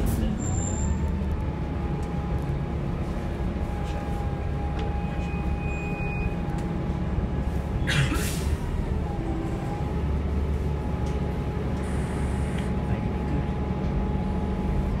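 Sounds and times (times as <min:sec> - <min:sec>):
bus engine low rumble: 0:00.0 - 0:15.0.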